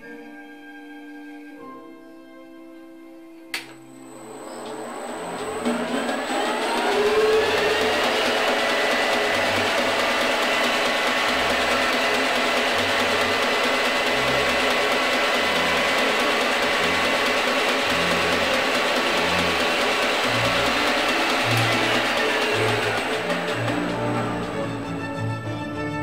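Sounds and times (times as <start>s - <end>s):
spindle motor whining: 3.6s - 25.6s
drill working into brass: 3.9s - 25.3s.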